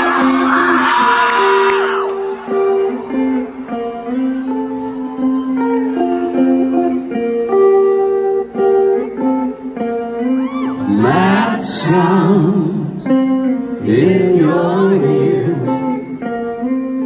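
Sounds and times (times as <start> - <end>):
slow electric guitar chords: 0.0 - 17.0.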